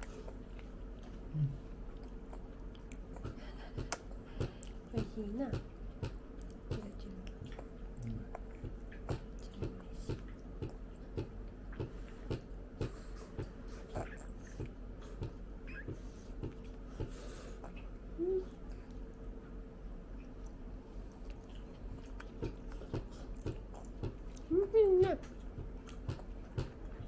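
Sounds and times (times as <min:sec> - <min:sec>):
person chewing food: 0:00.0 - 0:04.9, 0:05.7 - 0:24.6, 0:25.2 - 0:27.0.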